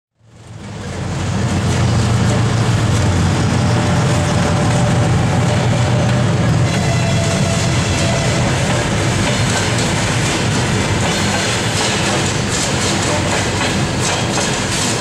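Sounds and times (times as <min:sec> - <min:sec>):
diesel locomotive droning: 0:00.2 - 0:15.0.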